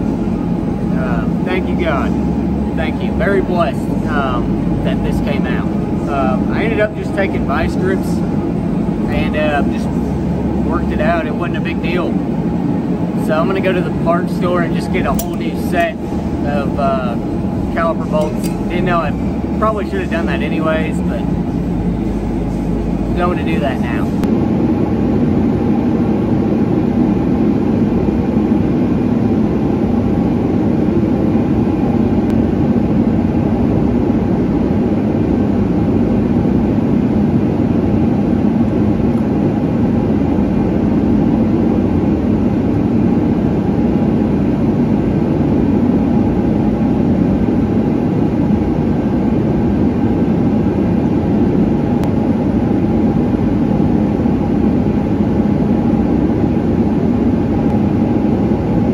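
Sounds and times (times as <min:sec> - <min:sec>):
loud mechanical drone: 0:00.0 - 0:58.9.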